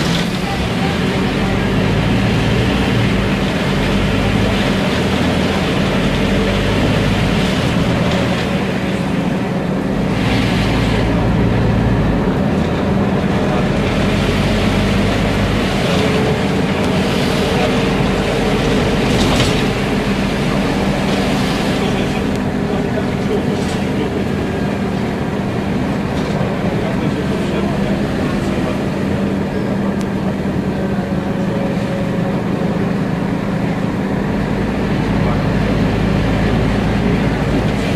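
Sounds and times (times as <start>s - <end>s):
bus engine running: 0.0s - 37.9s
road and tyre noise: 0.0s - 37.9s.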